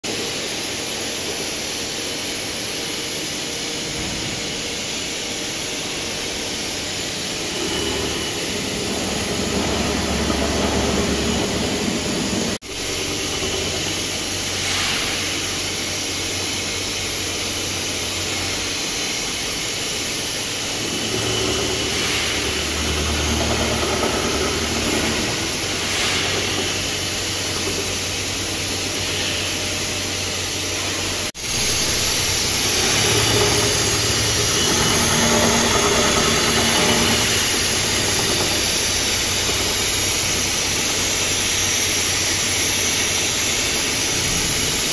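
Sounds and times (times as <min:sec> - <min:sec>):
milling machine cutting metal: 0:05.0 - 0:15.7, 0:18.3 - 0:44.9.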